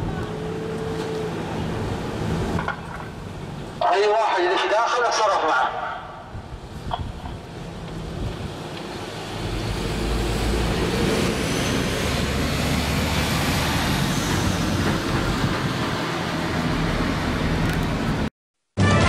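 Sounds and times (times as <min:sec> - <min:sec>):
tyre and road noise: 0:00.0 - 0:03.9, 0:06.2 - 0:19.0.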